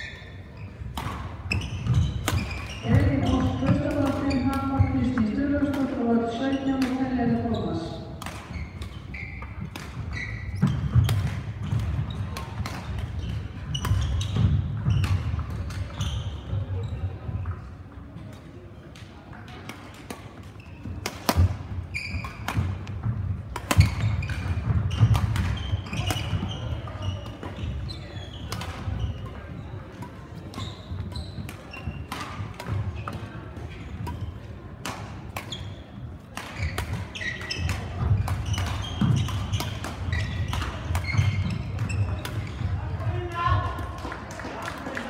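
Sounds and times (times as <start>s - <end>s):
shoes squeaking on court: 0.0s - 17.7s, 20.0s - 43.4s
racket hitting shuttlecock: 0.9s - 6.0s, 6.8s - 7.1s, 8.2s - 16.0s, 19.0s - 42.8s.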